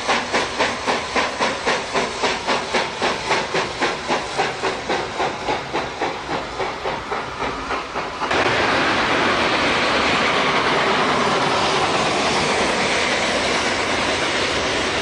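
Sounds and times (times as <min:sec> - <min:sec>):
steam locomotive exhaust chuffing: 0:00.0 - 0:15.0.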